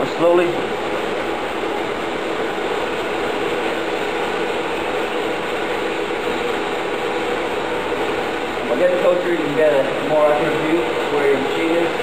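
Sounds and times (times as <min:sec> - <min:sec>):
machinery hum with hiss: 0:00.0 - 0:12.0.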